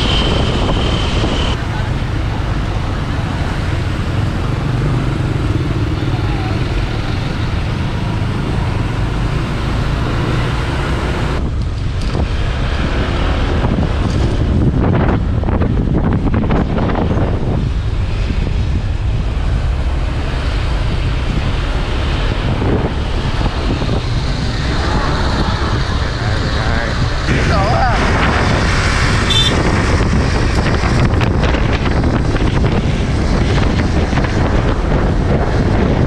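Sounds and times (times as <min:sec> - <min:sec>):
road and traffic noise: 0:00.0 - 0:36.0
wind buffeting microphone: 0:00.0 - 0:36.0.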